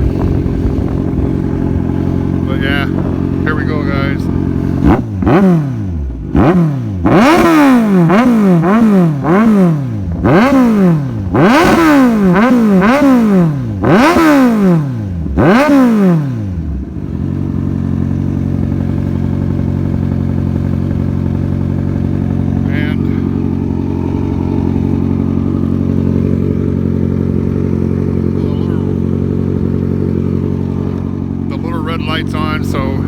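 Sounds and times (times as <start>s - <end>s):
motorcycle engine idling: 0.0s - 33.0s
motorcycle engine revving: 0.0s - 33.0s.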